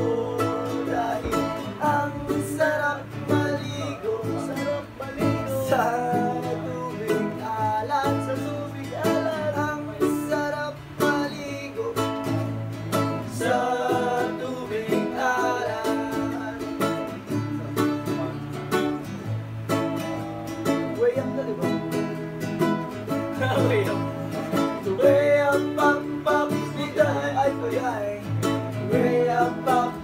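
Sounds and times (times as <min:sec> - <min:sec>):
classical guitar strumming: 0:00.0 - 0:30.0
ukulele strumming: 0:00.0 - 0:30.0.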